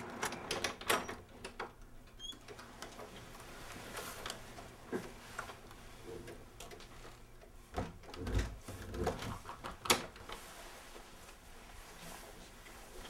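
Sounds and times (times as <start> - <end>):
knocks and rustles of handling: 2.4 - 13.0.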